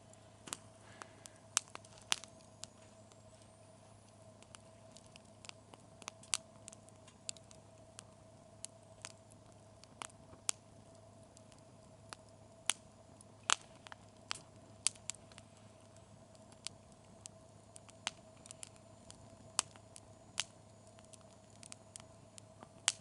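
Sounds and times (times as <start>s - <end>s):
campfire crackling and popping: 0.0s - 23.0s
faint steady hum: 0.0s - 23.0s.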